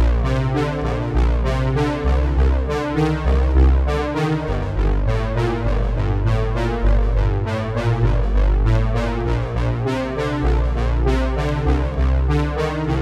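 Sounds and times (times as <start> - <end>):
music with beat and deep bass: 0.0 - 13.0.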